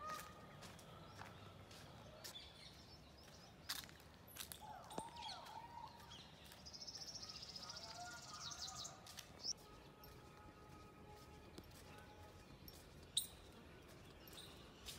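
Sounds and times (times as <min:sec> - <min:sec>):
birds chirping: 0:00.0 - 0:14.9
footsteps on paved path: 0:00.0 - 0:14.9.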